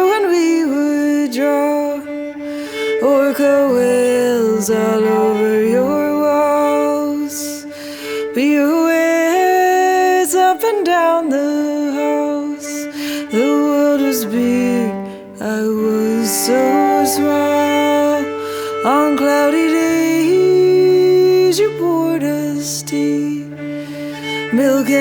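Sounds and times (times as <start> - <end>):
slow string song: 0.0 - 25.0.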